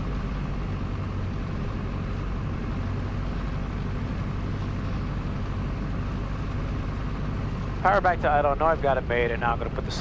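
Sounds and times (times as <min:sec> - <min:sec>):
airflow noise in cabin: 0:00.0 - 0:10.0
light aircraft engine drone: 0:00.0 - 0:10.0.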